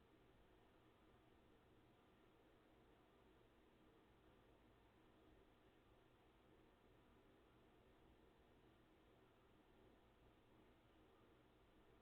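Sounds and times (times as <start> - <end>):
faint steady background hum: 0.0 - 12.0.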